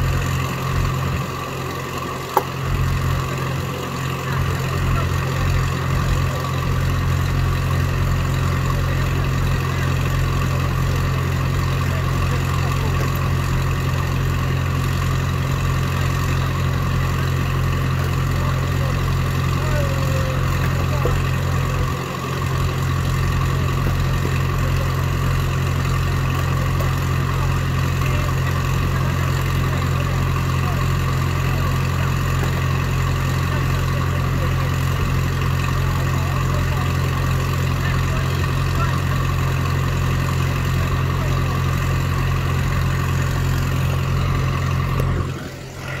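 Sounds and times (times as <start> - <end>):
log splitter engine running: 0.0 - 46.0.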